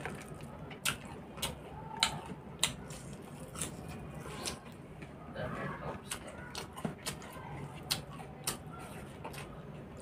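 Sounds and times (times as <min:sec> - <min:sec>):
person chewing crunchy greens: 0:00.0 - 0:10.0.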